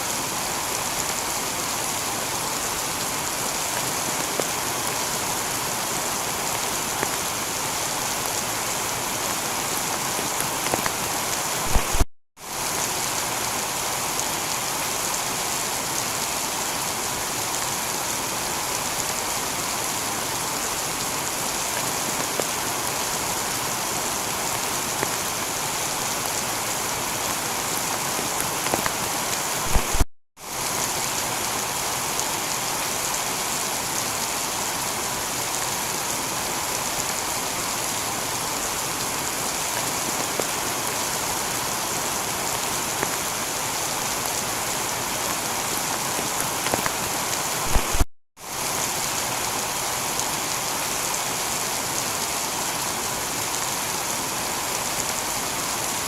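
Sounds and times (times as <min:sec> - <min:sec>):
heavy rain on tiled roof: 0:00.0 - 0:56.0.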